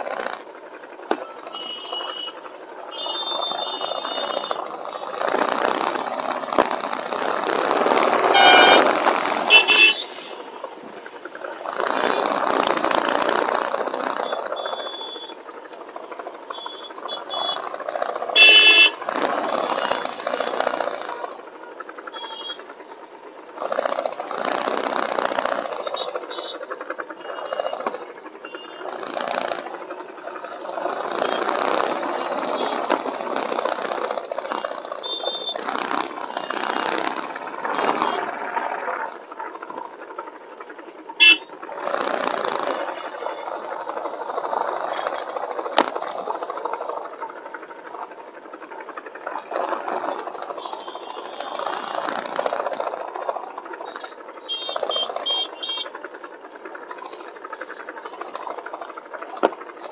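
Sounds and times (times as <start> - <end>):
city traffic noise: 0.0 - 59.9
motorcycle engine: 0.0 - 59.9.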